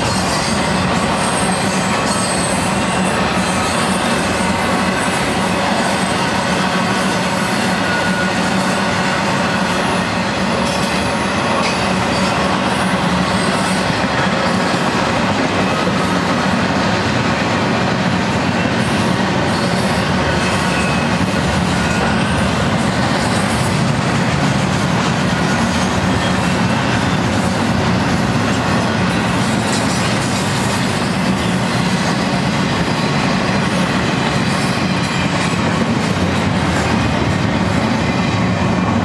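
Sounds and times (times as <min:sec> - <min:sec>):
freight train wheels rumbling on rail: 0:00.0 - 0:39.0.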